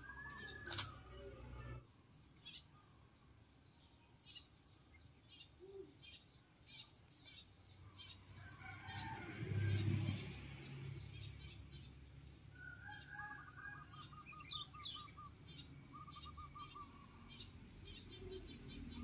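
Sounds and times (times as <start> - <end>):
small birds chirping: 0.0 - 8.4, 9.7 - 19.0.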